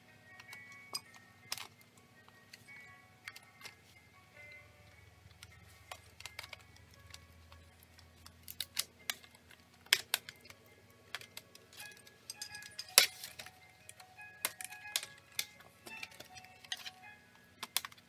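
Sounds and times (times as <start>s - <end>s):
quiet background music: 0.0s - 18.0s
clicks handling plastic parts: 0.4s - 2.6s, 5.3s - 18.0s.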